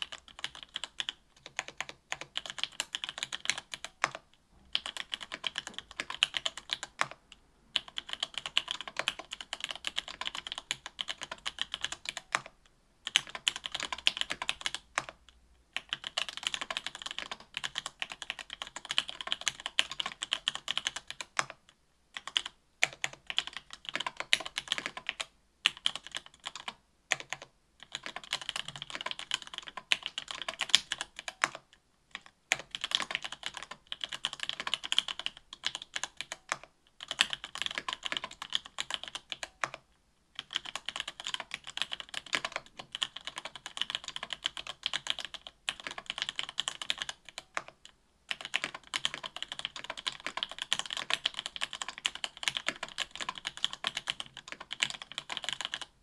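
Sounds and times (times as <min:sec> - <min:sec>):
mechanical keyboard typing: 0:00.0 - 0:15.2, 0:15.8 - 0:21.6, 0:22.2 - 0:39.8, 0:40.4 - 0:56.0.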